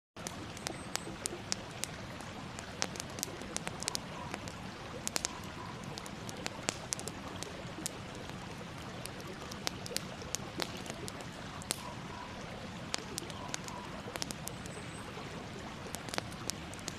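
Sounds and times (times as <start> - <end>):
campfire crackling: 0.2 - 16.9.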